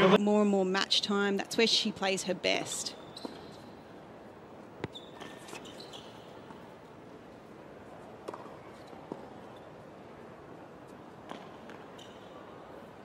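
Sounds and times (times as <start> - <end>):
faint arena background: 0.0 - 13.0.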